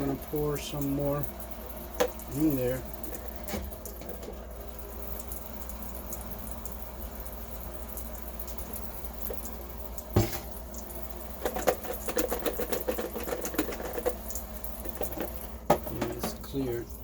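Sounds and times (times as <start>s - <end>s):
liquid clicking and gurgling: 0.0s - 17.0s.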